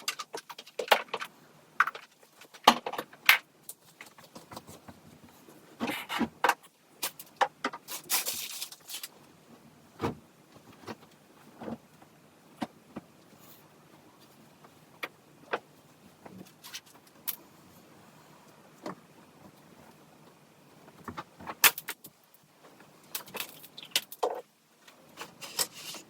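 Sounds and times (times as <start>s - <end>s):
rustling: 0.0s - 26.0s.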